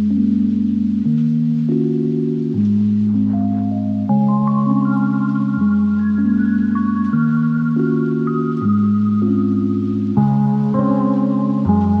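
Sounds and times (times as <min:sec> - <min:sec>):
soft ambient electronic music: 0:00.0 - 0:12.0.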